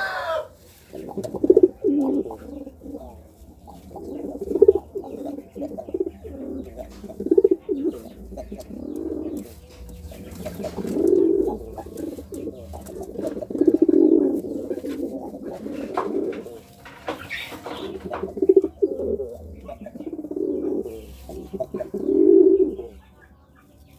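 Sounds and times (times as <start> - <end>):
pigeon cooing: 0.0 - 23.9.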